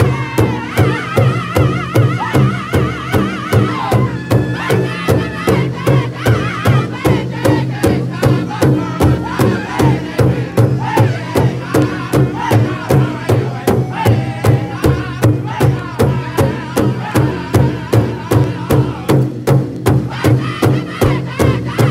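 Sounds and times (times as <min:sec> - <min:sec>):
large drum beating: 0:00.0 - 0:21.9
men singing in high voices: 0:00.0 - 0:21.9.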